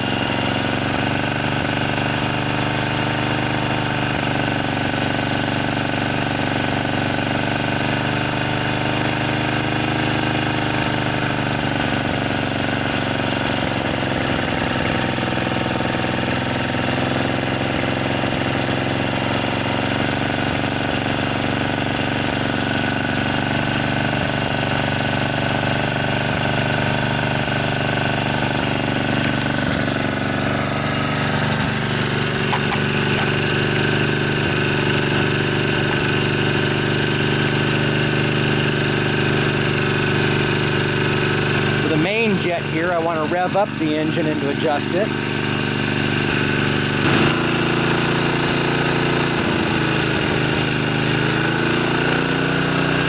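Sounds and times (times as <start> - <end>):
small engine running at low speed: 0.0 - 53.0.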